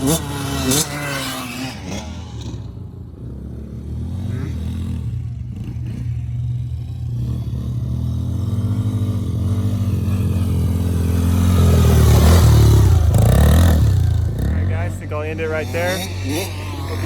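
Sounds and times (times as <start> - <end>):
small off-road engine: 0.0 - 17.0.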